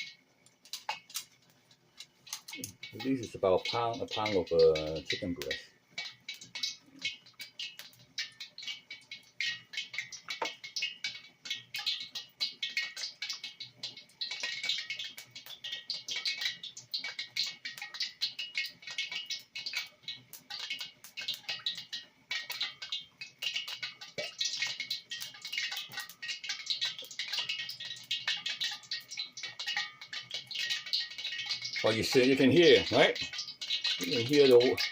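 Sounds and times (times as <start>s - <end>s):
oil crackling and spitting in a pan: 0.0s - 34.9s.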